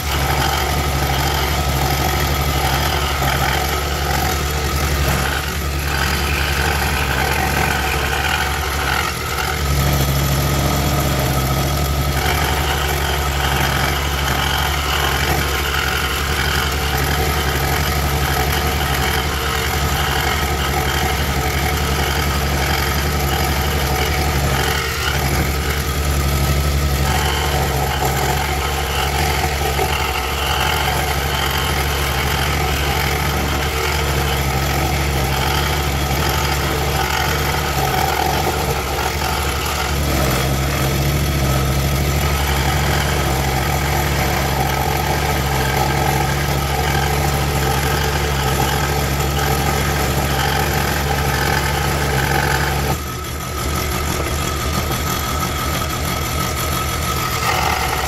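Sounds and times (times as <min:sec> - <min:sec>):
scroll saw cutting wood: 0:00.0 - 0:58.0.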